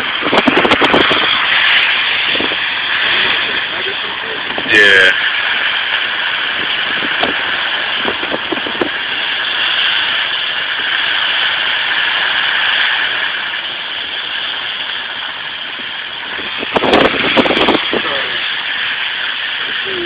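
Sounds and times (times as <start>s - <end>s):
constant hiss: 0.0s - 20.0s.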